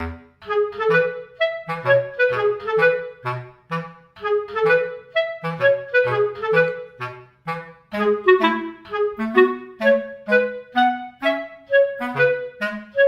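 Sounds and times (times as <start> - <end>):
woodwind melody over bass: 0.0 - 13.0.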